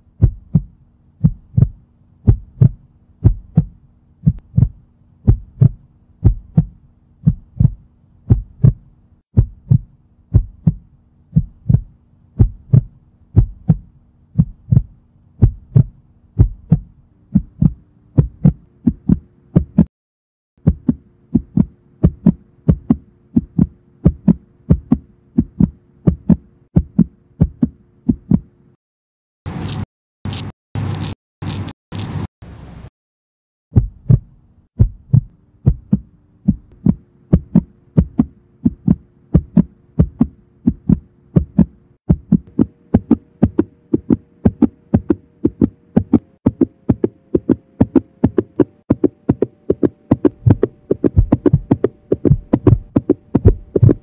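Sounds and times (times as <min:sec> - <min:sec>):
heartbeat thumps: 0:00.2 - 0:19.9, 0:20.6 - 0:28.5, 0:33.7 - 0:54.0.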